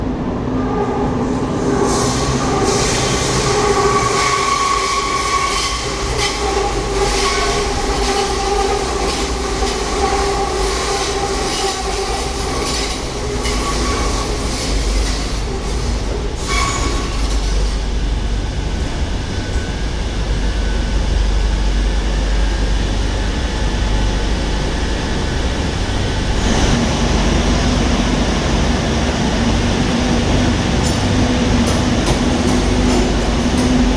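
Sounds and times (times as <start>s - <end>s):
subway train rumbling: 0.0s - 33.9s.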